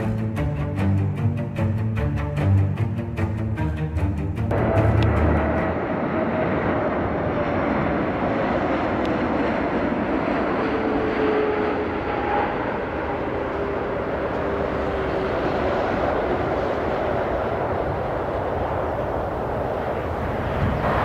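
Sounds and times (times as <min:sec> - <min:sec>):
jet engines roaring: 0:02.7 - 0:21.0.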